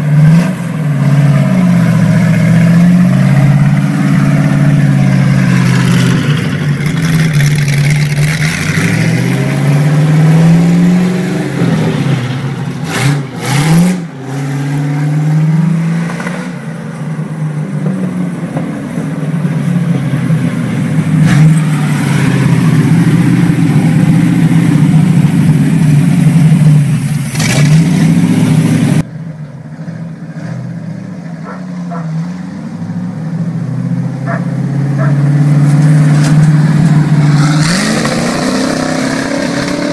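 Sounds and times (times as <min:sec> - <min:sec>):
engine revving: 0:00.0 - 0:29.1, 0:31.4 - 0:39.9.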